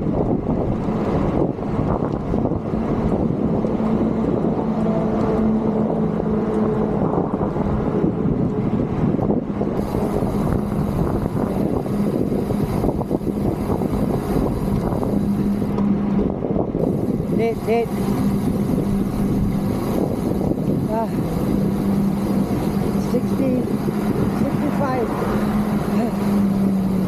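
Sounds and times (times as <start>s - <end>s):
traffic engine hum: 0.0s - 27.0s
wind rushing over microphone: 0.0s - 27.0s.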